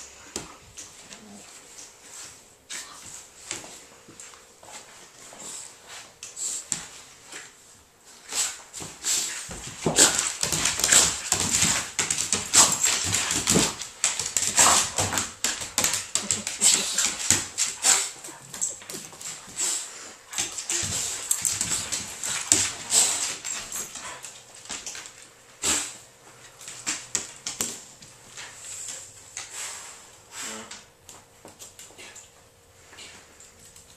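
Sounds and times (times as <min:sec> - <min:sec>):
paws scrabbling on wood floor: 0:00.0 - 0:29.8.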